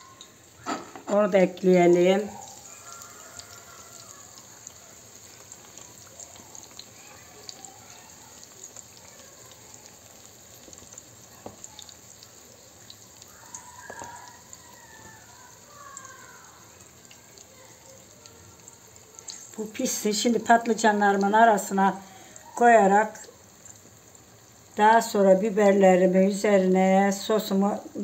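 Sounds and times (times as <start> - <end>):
sauce bubbling in a pan: 0.0 - 28.0.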